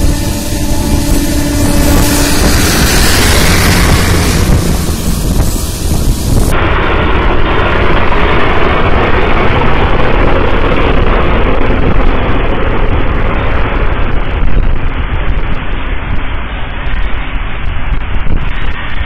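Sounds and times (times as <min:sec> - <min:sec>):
train running rumble: 0:00.0 - 0:19.0
wind buffeting microphone: 0:00.0 - 0:19.0.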